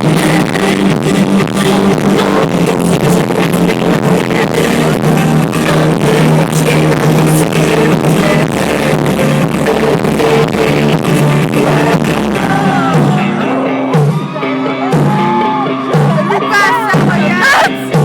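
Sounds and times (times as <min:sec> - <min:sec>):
guitar: 0:00.0 - 0:18.0
live pop-rock band playing: 0:00.0 - 0:18.0
steady drum beat: 0:00.0 - 0:18.0.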